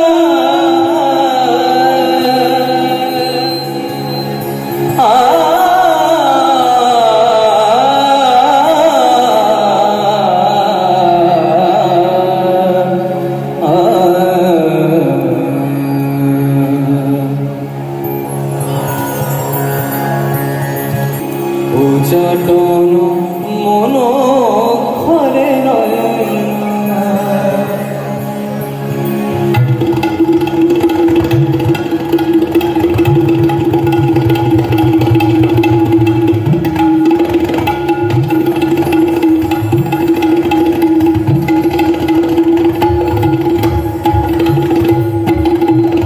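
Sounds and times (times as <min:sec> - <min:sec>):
harmonium drone chord: 0:00.0 - 0:46.0
tabla playing: 0:00.0 - 0:46.0.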